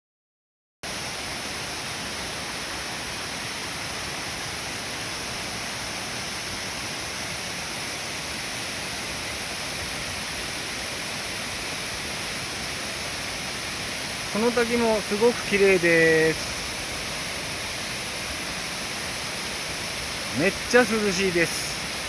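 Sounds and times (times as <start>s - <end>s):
waterfall rushing: 0.9s - 22.0s.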